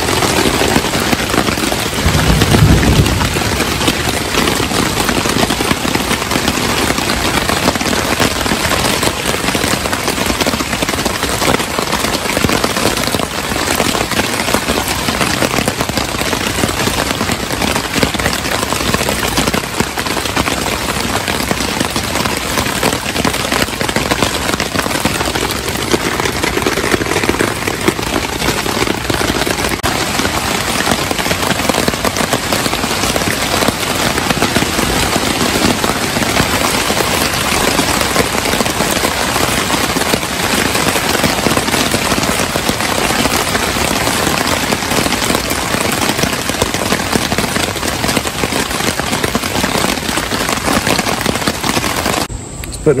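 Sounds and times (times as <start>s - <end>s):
heavy rain on tarp: 0.0s - 53.0s.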